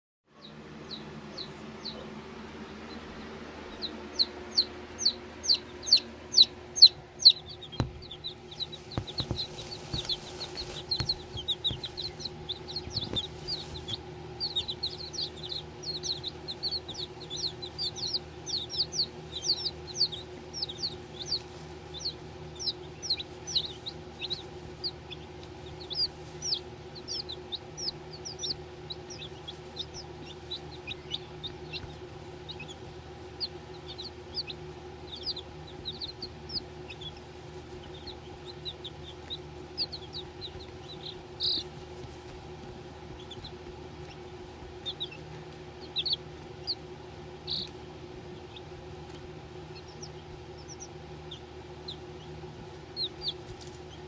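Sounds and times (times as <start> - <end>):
baby chicks peeping: 0.3 - 54.0
steady low hum: 0.3 - 54.0.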